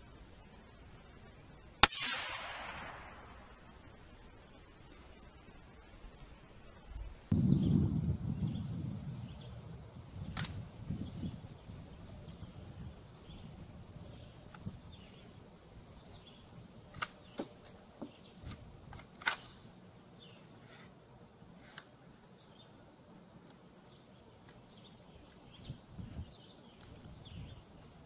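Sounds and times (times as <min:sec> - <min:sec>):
faint birds chirping: 0:03.6 - 0:28.0.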